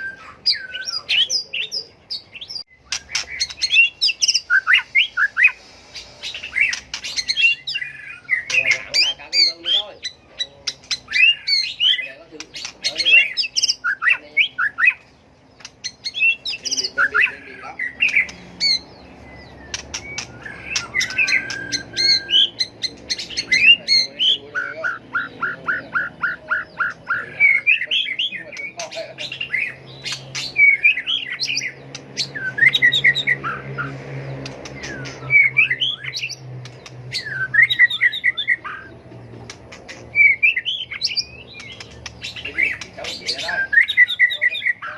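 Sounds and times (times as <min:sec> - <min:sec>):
bird singing with whistles and clicks: 0:00.0 - 0:44.9.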